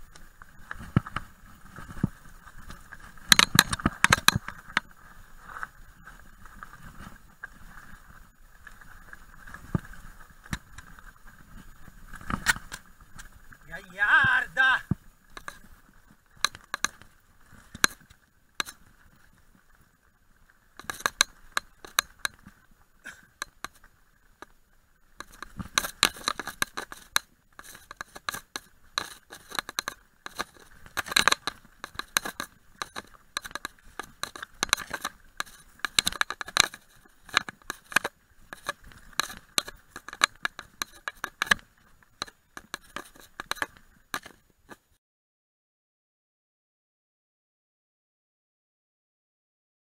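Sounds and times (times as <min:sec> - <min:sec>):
bike rattling over gravel: 0:00.0 - 0:45.0.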